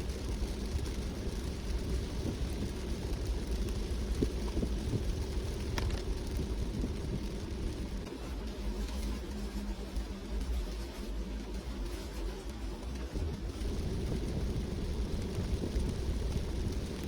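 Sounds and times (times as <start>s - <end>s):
car driving low rumble: 0.0s - 17.0s
hiss of rain on wet road: 0.0s - 17.0s.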